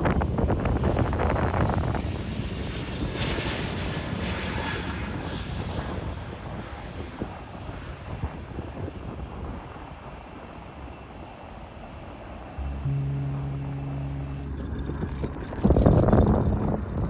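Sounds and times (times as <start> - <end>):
jet engines rumbling at takeoff: 0.0 - 17.0.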